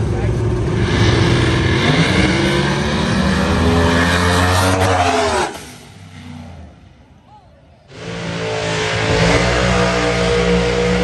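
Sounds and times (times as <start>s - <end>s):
racing car engines accelerating: 0.0s - 7.0s, 7.8s - 11.0s.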